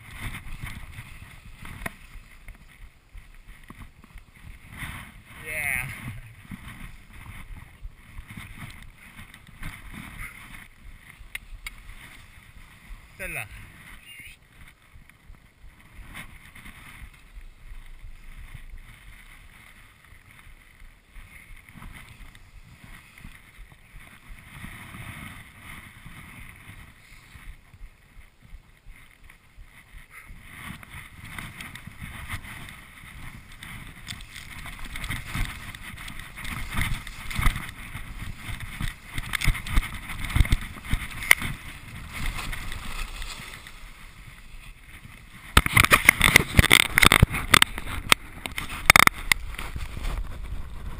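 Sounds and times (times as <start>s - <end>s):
skis scraping over snow: 0.0s - 50.9s
wind on microphone: 0.0s - 50.9s.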